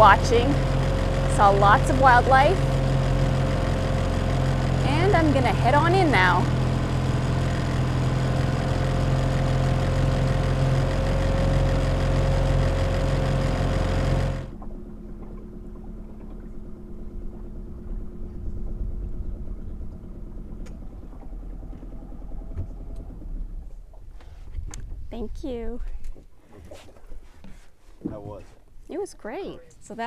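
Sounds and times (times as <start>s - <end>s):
low hum: 0.0s - 27.2s
water rushing along hull: 0.0s - 28.4s
outboard motor running: 0.0s - 30.0s.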